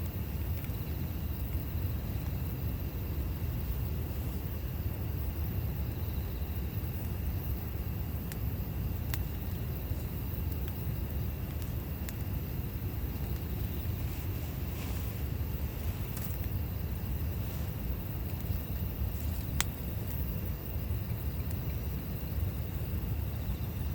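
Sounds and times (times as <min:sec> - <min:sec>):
fire low rumble: 0:00.0 - 0:23.9
wood crackling in fire: 0:00.0 - 0:23.9.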